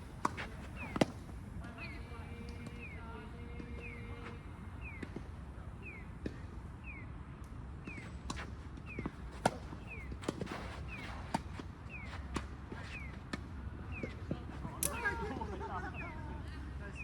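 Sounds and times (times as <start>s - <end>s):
tennis balls struck and bouncing: 0.0s - 1.5s, 2.4s - 5.4s, 6.1s - 15.5s.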